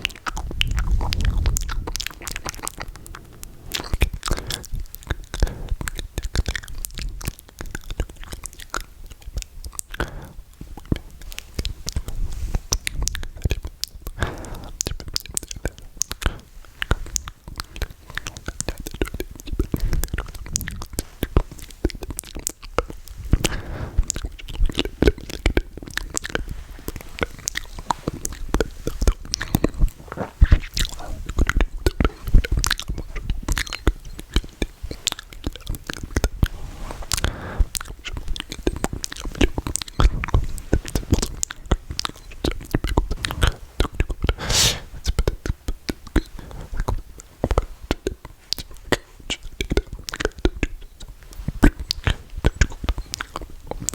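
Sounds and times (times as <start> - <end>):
wet mouth clicks and smacks: 0.0 - 53.9.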